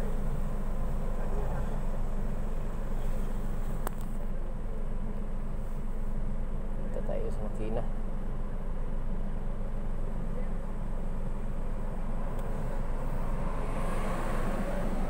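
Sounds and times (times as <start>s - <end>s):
car cabin low rumble: 0.0s - 15.0s.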